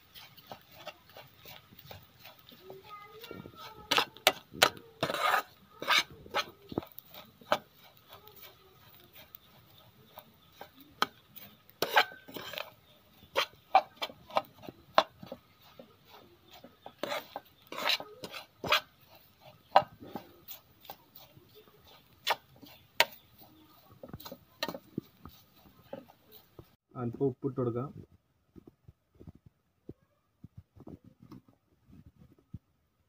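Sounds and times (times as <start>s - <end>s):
spatula scraping a pan: 0.0s - 26.8s.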